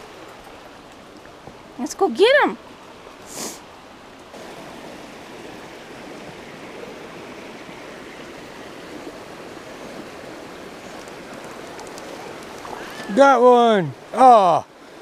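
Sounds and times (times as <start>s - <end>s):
creek flowing over stones: 0.0s - 15.0s.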